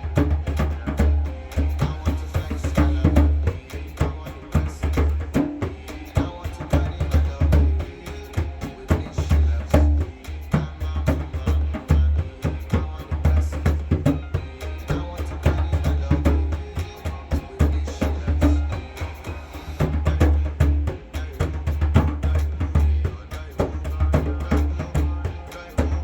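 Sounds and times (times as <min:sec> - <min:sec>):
drum kit groove: 0:00.0 - 0:26.0.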